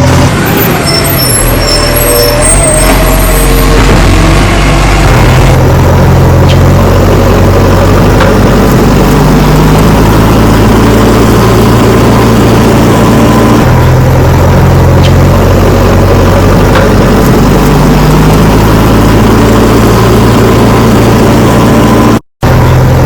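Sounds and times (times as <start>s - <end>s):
heavy engine idling: 0.0s - 23.0s.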